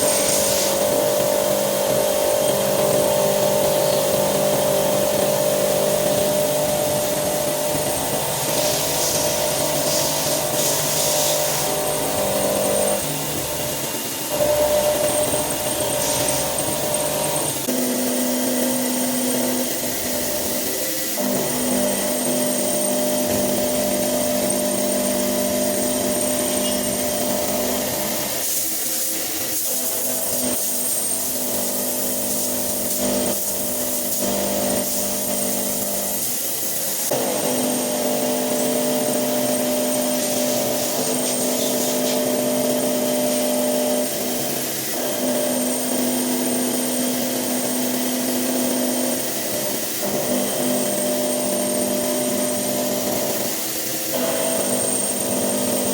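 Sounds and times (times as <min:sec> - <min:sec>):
milling machine cutting steel: 0:00.0 - 0:55.9.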